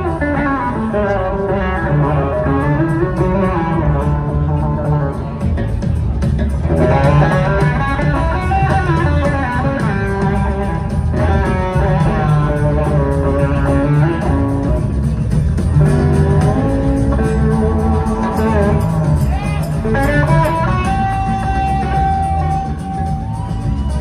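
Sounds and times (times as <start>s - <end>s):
blues-rock band playing: 0.0s - 24.0s
electric guitar lines: 0.0s - 24.0s.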